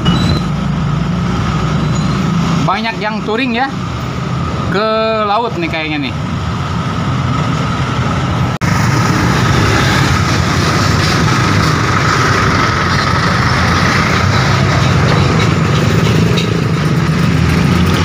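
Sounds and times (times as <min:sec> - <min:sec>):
car and motorcycle engines: 0:00.0 - 0:18.0.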